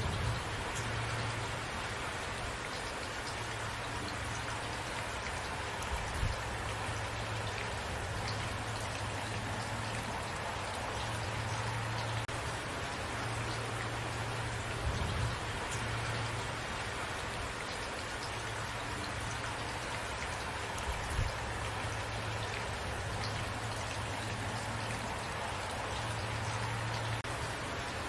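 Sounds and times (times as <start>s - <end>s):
raindrops ticking: 0.0s - 28.0s
steady rainfall: 0.0s - 28.0s.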